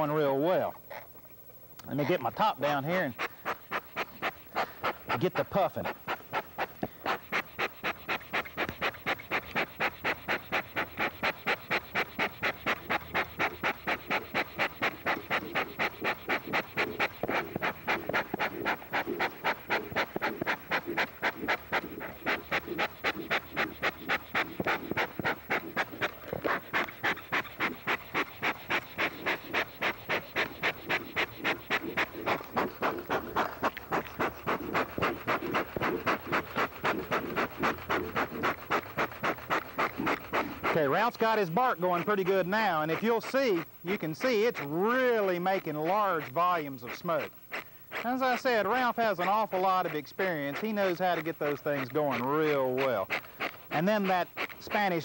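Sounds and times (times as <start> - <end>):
bellows puffing air: 1.9 - 55.0.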